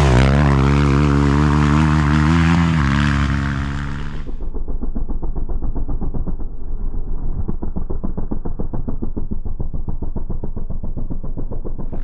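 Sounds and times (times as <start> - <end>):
muffled atv engine accelerating: 0.0 - 12.0.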